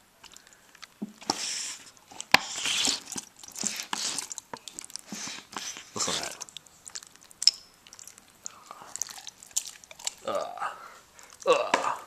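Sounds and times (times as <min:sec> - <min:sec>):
wet squelching: 0:00.2 - 0:11.5.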